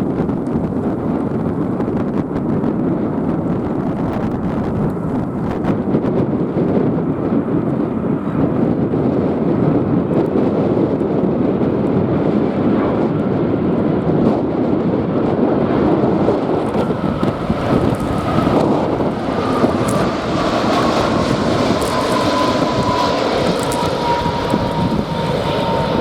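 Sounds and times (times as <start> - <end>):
jet engines rumbling: 0.0 - 26.0
wind buffeting microphone: 0.0 - 26.0.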